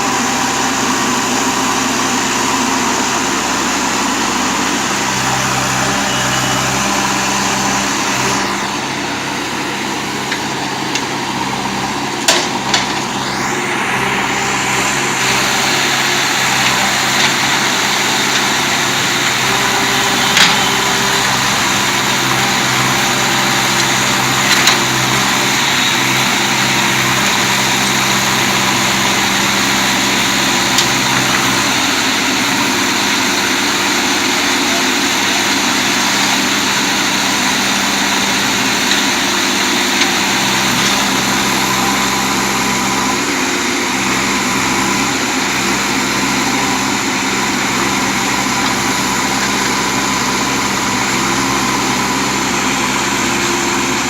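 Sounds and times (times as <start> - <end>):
machine motor humming: 0.0 - 54.0.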